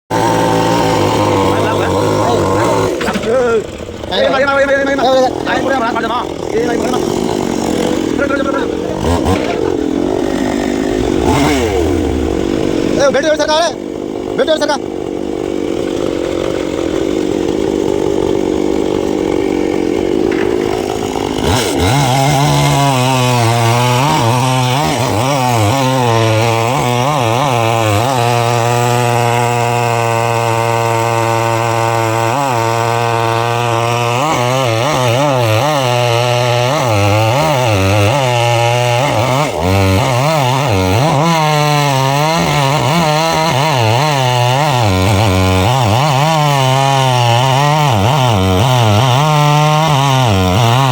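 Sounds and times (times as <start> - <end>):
chainsaw cutting wood: 0.1 - 50.9.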